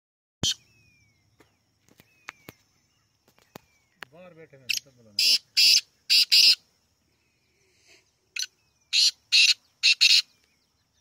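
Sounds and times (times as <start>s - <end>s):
francolin calling: 0.4s - 11.0s.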